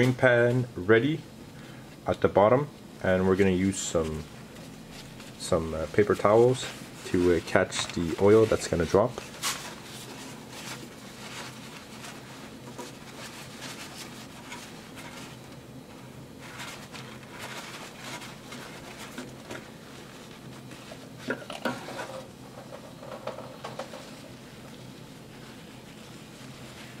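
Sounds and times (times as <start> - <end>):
paper towels rustling: 1.6 - 27.0.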